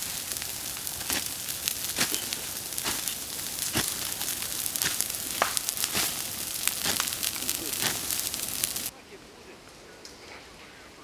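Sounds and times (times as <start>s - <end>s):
fire burning with crackles and pops: 0.0s - 8.9s.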